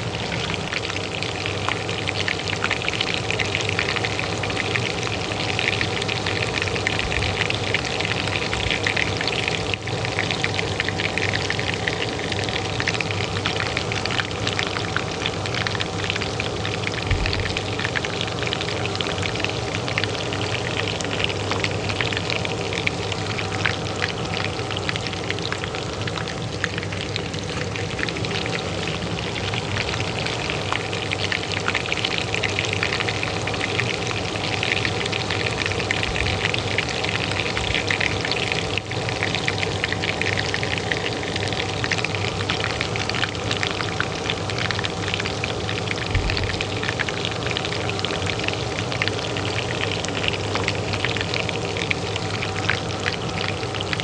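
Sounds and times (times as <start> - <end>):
oil sizzling in a pan: 0.0 - 54.0
range hood fan humming: 0.0 - 54.0.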